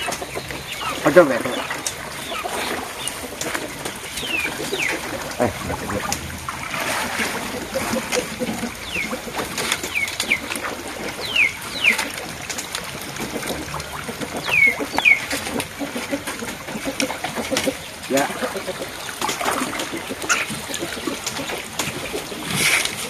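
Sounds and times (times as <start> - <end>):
pond water splashing: 0.0 - 23.0.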